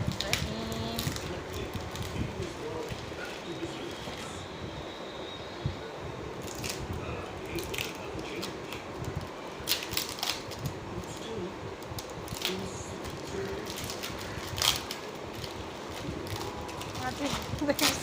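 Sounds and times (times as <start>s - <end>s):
packaging crinkling and rustling: 0.0s - 4.4s, 6.4s - 18.0s.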